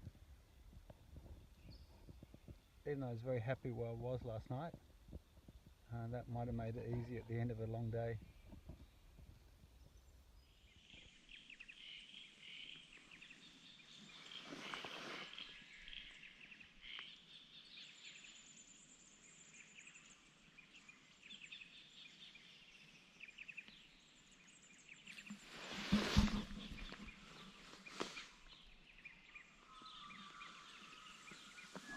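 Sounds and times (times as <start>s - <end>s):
small birds chirping: 1.2s - 31.9s.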